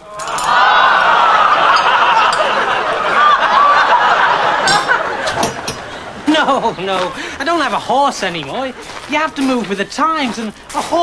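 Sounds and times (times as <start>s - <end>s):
audience laughing: 0.1s - 9.1s.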